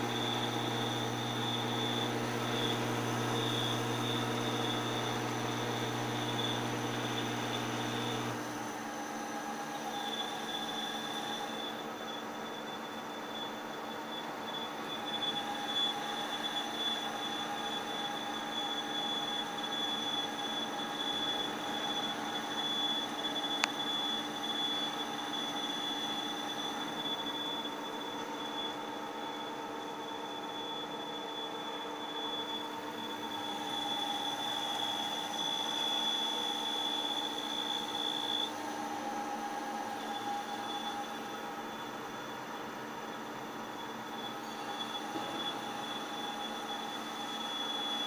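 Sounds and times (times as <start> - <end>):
cnc machine whine: 0.0 - 48.0.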